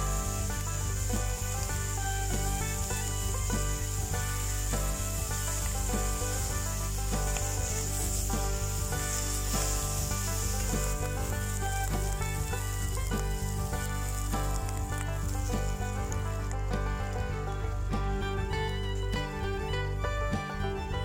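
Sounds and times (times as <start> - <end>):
food sizzling in a pan: 0.0 - 19.0
background music: 0.0 - 21.0.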